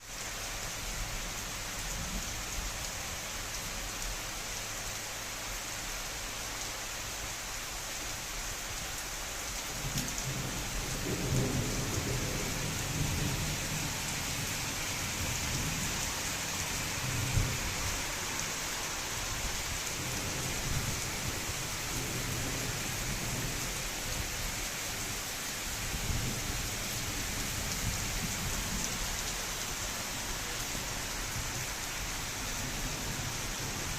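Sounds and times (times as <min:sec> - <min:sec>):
rain hissing: 0:00.0 - 0:33.9.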